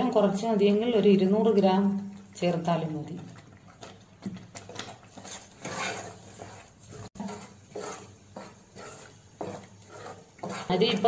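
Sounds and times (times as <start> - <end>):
wooden spoon stirring thick pudding: 1.5 - 11.0.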